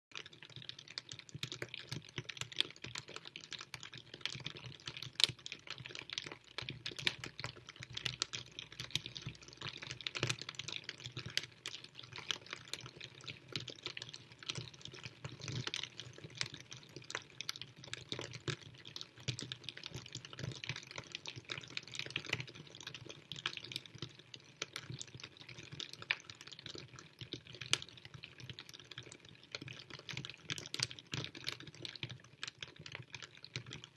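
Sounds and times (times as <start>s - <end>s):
rain drops ticking: 0.1s - 33.9s.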